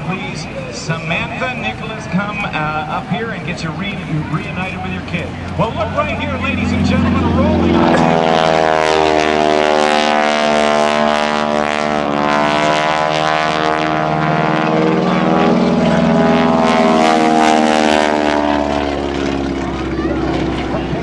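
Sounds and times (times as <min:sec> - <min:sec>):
propeller plane engine at high power: 0:00.0 - 0:21.0.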